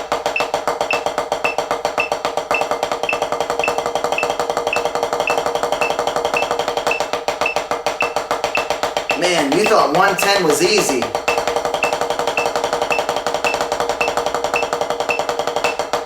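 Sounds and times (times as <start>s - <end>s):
drumsticks on practice pad: 0.0s - 16.0s
metronome click: 0.4s - 8.8s, 11.3s - 15.8s.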